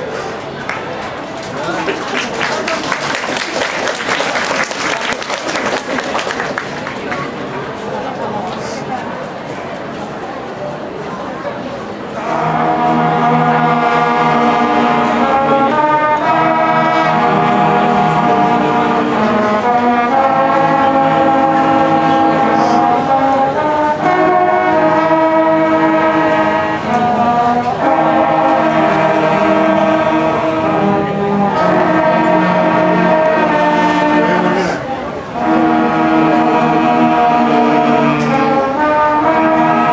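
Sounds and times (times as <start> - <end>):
brass band playing sustained chords: 2.1 - 7.5, 11.9 - 39.9.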